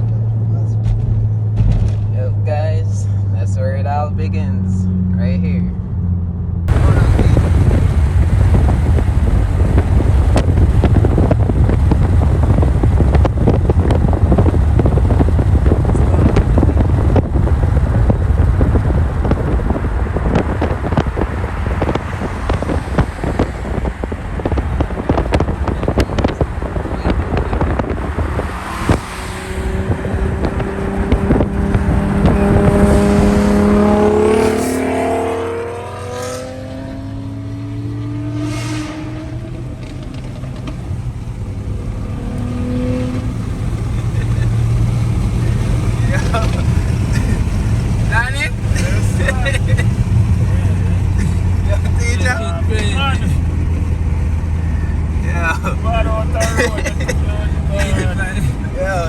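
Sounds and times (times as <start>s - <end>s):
car engine under load: 0.0s - 59.0s.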